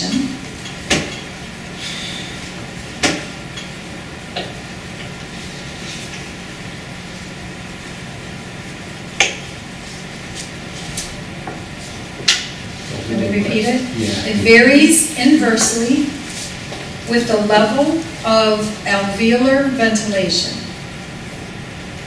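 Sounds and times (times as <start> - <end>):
room hum: 0.0 - 22.0.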